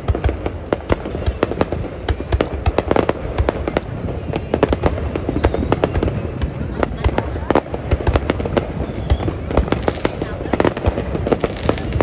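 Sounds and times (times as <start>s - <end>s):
continuous low rumble: 0.0s - 12.0s
fireworks bangs and pops: 0.0s - 12.0s.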